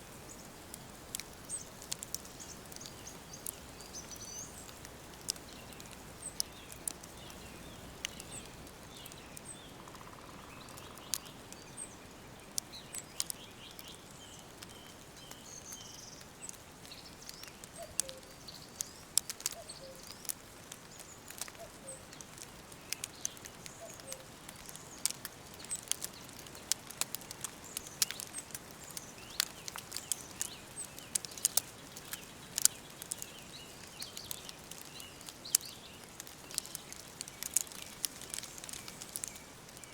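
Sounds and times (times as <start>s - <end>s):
fire crackling and popping: 0.0s - 39.9s
birds chirping: 1.1s - 26.7s, 27.6s - 39.9s.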